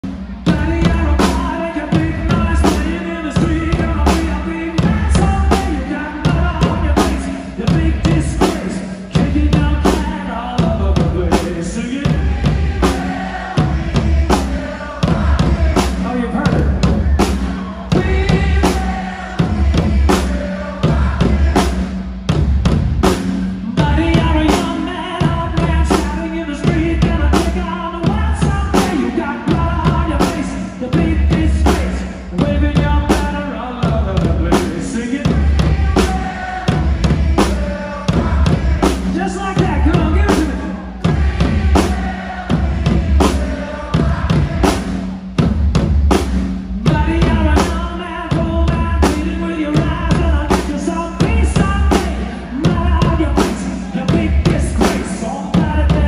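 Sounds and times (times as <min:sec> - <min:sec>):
man singing: 0:00.0 - 0:22.0, 0:23.6 - 0:45.2, 0:46.8 - 0:56.0
pounding drums: 0:00.0 - 0:56.0.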